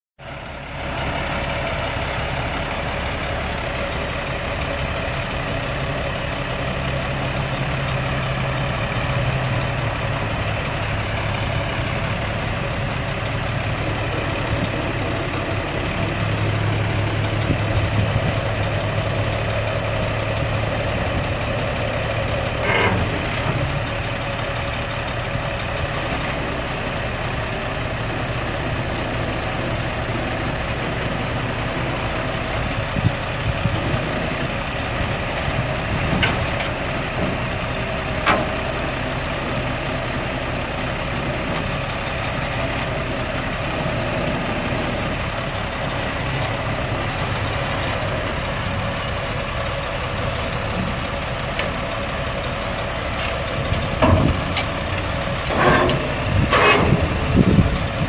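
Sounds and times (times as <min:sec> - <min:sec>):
diesel engine idling: 0:00.2 - 0:58.0.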